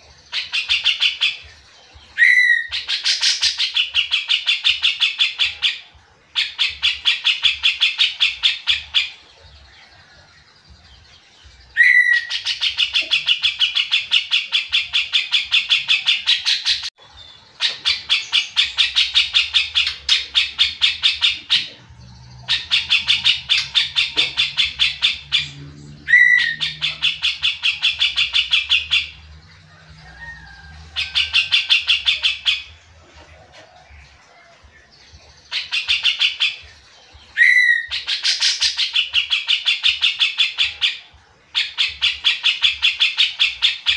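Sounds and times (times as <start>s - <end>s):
bird chattering song: 0.0s - 43.9s.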